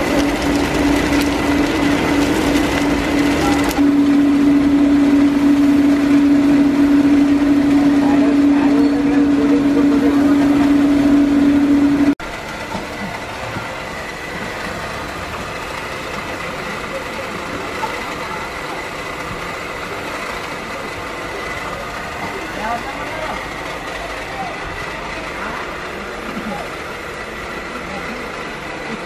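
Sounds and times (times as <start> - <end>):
machine motor humming: 0.0 - 29.0
workshop noise: 0.0 - 29.0.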